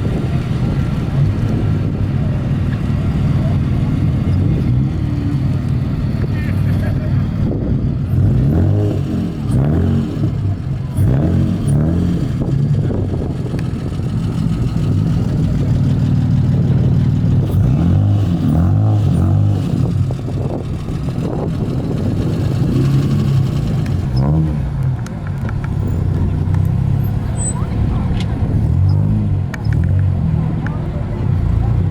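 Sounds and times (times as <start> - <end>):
car engine idling: 0.0 - 31.9
engine throttle blips: 0.0 - 31.9.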